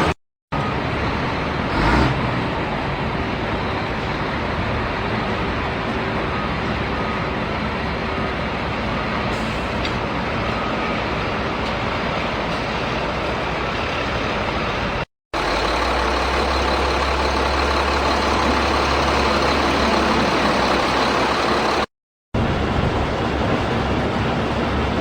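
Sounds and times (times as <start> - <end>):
vehicle engine hum: 0.0 - 25.0.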